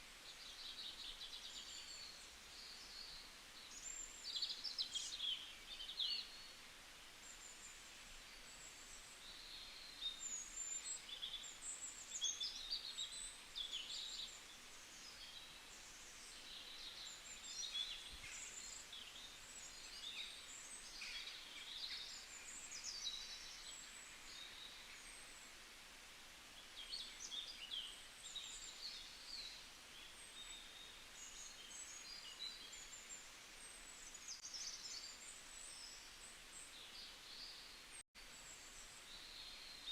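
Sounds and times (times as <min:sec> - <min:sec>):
soft background hiss: 0:00.0 - 0:39.9.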